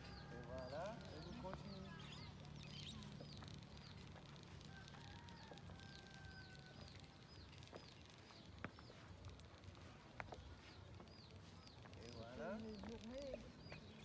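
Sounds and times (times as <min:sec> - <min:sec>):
bird chirping: 0:00.0 - 0:04.7, 0:05.4 - 0:14.0.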